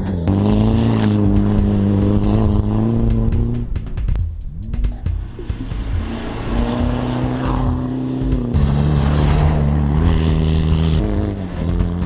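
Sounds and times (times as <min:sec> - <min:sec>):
diesel engine driven hard: 0:00.0 - 0:12.0
music with fast beat and bass: 0:00.0 - 0:12.0.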